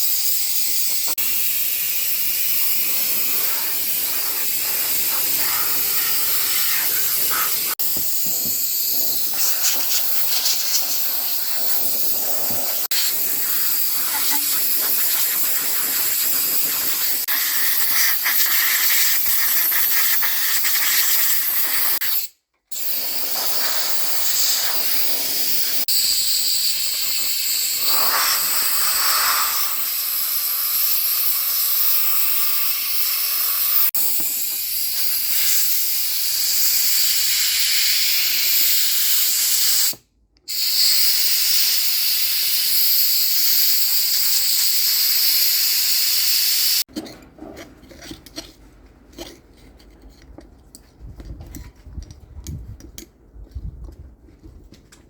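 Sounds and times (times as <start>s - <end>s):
loud steady hiss: 0.0s - 46.9s.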